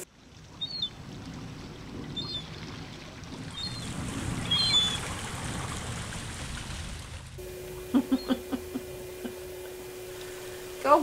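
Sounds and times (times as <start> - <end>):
sea water splashing: 0.0 - 10.7.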